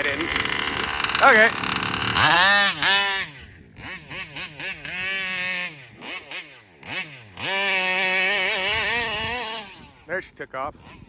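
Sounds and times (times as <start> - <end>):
two-stroke engine revving: 0.0 - 11.0.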